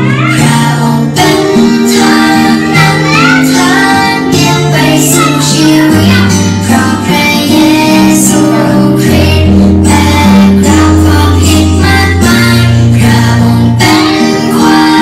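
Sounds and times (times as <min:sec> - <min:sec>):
bass notes: 0:00.0 - 0:15.0
children singing: 0:00.0 - 0:15.0
guitar: 0:00.0 - 0:15.0
woman singing: 0:00.0 - 0:15.0.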